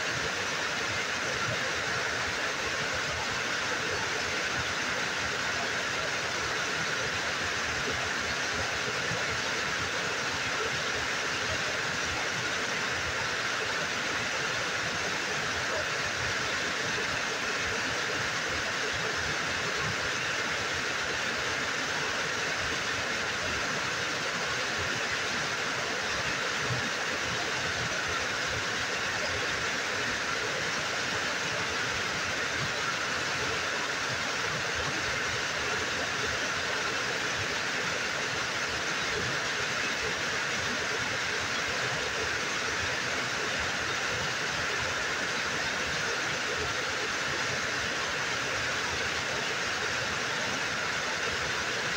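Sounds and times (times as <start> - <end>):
waterfall rushing into pool: 0.0 - 51.9.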